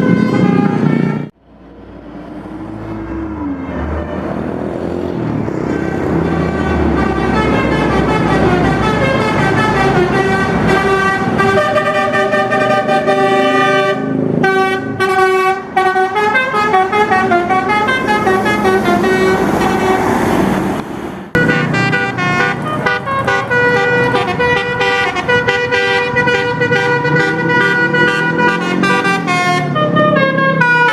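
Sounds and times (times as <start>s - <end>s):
musical bus horn melody: 0.0s - 1.4s, 3.4s - 20.5s, 21.4s - 30.9s
low engine rumble: 0.1s - 30.3s.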